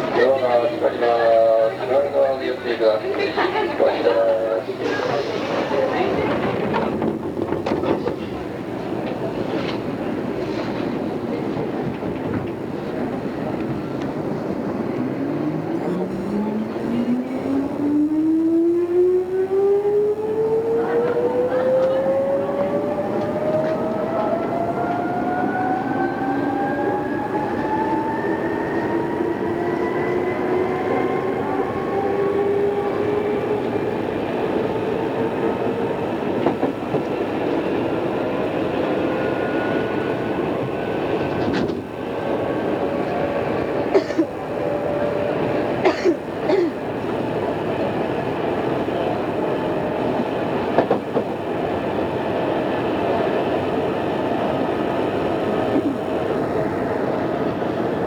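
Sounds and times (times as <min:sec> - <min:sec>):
train running rumble: 0:00.0 - 0:18.5, 0:19.2 - 0:58.0.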